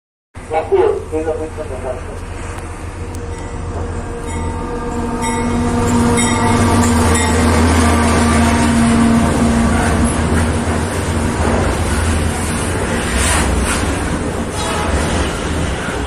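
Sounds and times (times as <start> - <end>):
diesel locomotive passing: 0.4 - 16.0.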